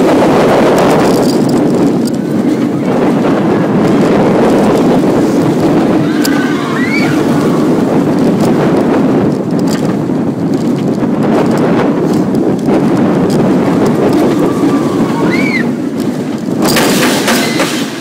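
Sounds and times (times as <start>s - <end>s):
roller coaster train rumbling: 0.0s - 18.0s
track clicks and rattles: 0.0s - 18.0s
wind rushing over microphone: 0.0s - 18.0s.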